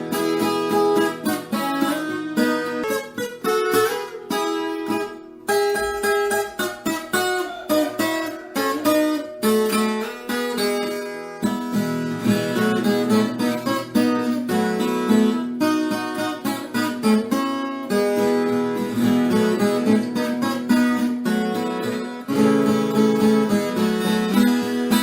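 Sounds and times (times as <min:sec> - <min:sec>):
country tunes on acoustic strings: 0:00.0 - 0:25.0.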